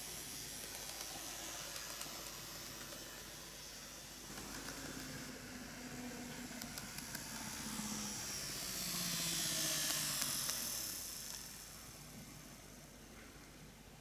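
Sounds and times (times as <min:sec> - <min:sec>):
wheels rolling on track: 0:00.0 - 0:12.3
model train motor whine: 0:00.0 - 0:13.1.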